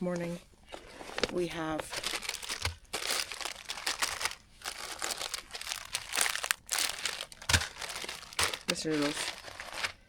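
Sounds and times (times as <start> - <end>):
plastic packaging crinkling: 0.5 - 10.0.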